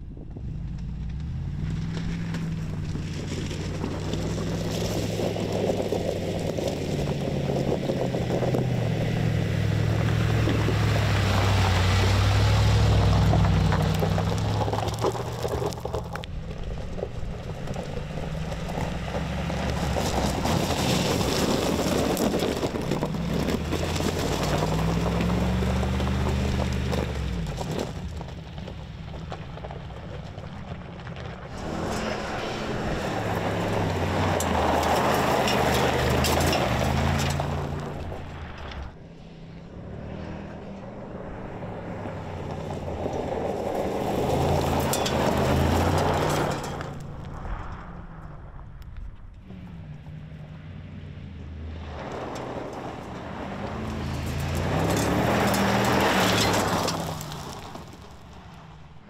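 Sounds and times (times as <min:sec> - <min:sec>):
car engine revving: 0:00.0 - 0:58.5
tyres on loose gravel: 0:00.4 - 0:59.0.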